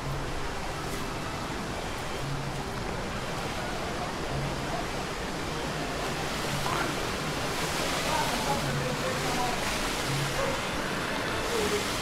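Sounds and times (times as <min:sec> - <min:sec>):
river rushing: 0:00.0 - 0:12.0
waterfall rushing: 0:00.0 - 0:12.0.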